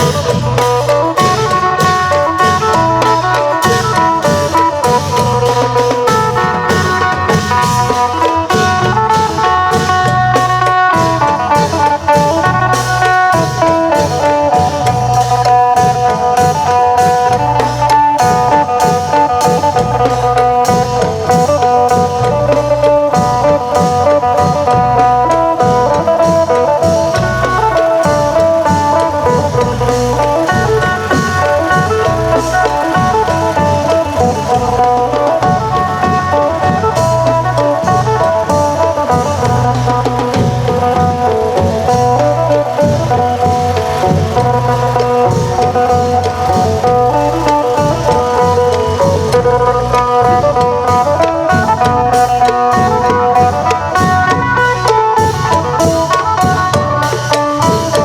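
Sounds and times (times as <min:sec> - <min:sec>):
long drums and percussion: 0:00.0 - 0:58.0
plucked lute melody: 0:00.0 - 0:58.0.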